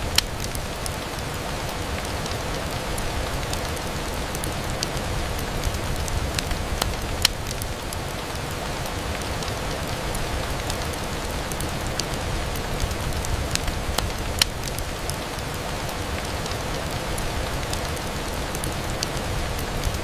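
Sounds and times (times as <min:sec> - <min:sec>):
rain on a window: 0:00.0 - 0:20.0.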